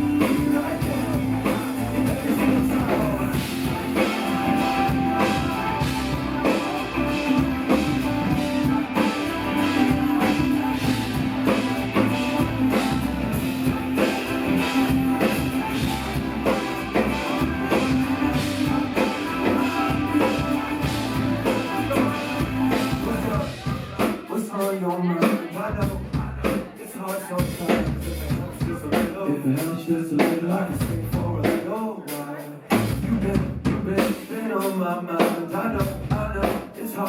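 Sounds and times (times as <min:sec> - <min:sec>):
drum kit beat: 0:00.0 - 0:37.0
live pop-rock band playing: 0:00.0 - 0:37.0.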